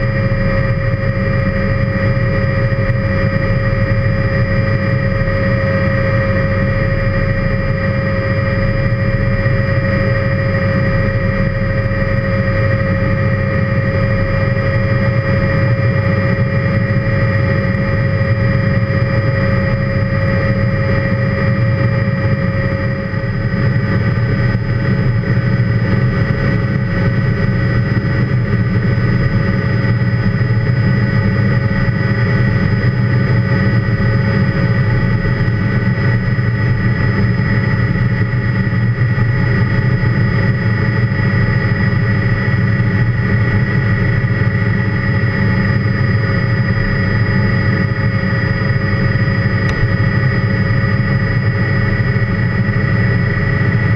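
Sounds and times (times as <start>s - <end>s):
helicopter rotor and engine rumble: 0.0s - 53.9s
high whine: 0.0s - 53.9s.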